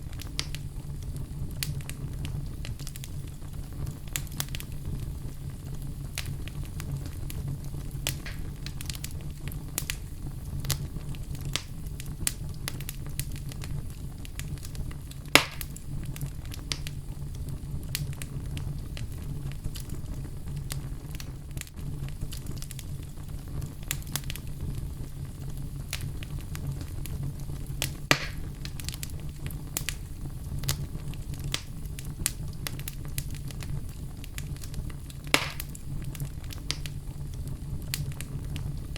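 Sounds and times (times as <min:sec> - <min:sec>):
low fire rumble: 0:00.0 - 0:38.9
sharp pops of fire: 0:00.0 - 0:38.9
wood fire crackling: 0:00.0 - 0:38.9.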